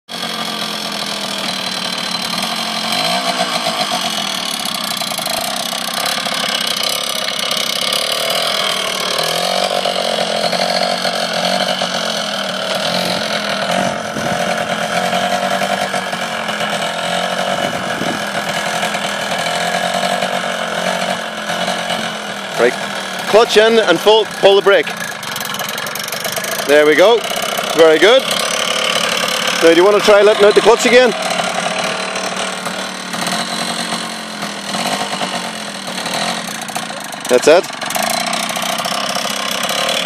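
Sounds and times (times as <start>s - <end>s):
two-stroke motorcycle engine running: 0.1s - 40.0s.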